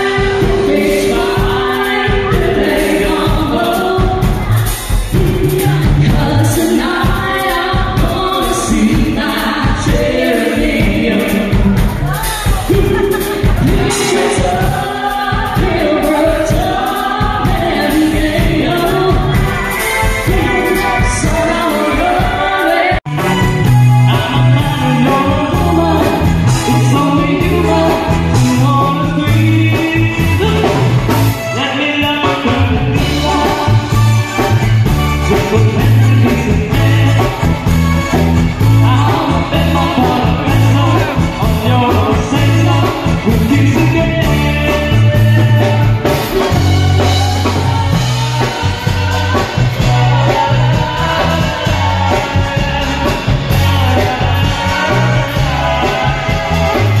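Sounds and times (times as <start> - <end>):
amplified music with singing: 0.0 - 57.0
electric guitar: 0.0 - 57.0
keyboard: 0.0 - 57.0
person singing: 0.0 - 57.0
repeating bass line: 0.0 - 57.0.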